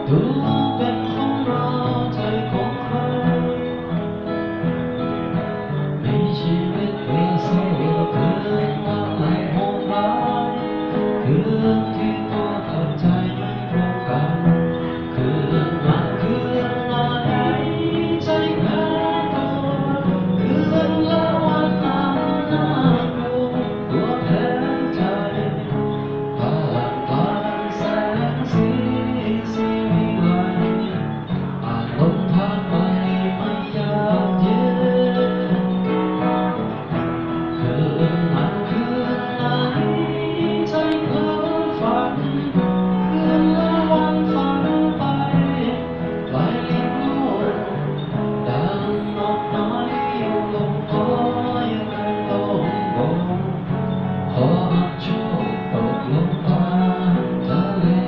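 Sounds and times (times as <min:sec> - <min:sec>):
acoustic guitar strummed: 0:00.0 - 0:58.0
man singing: 0:00.0 - 0:58.0.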